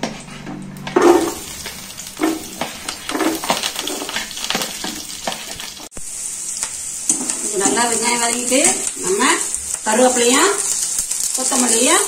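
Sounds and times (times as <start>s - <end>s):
shallots sizzling in hot oil: 1.0s - 12.0s.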